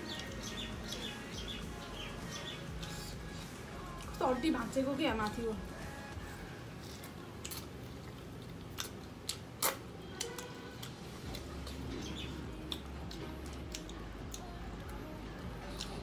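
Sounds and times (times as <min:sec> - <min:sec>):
wet chewing and smacking: 0:00.1 - 0:04.2, 0:06.3 - 0:16.0.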